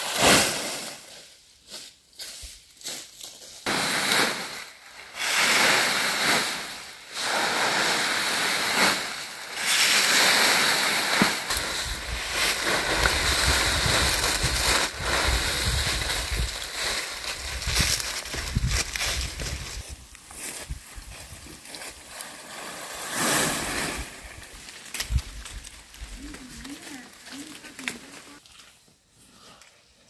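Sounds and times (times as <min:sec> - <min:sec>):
dry leaves rustling: 0:00.0 - 0:28.8.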